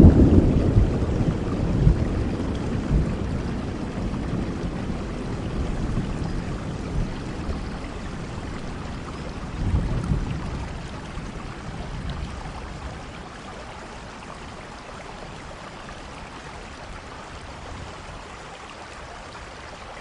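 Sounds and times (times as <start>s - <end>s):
rolling thunder rumble: 0.0s - 18.1s
steady rain falling: 0.0s - 20.0s.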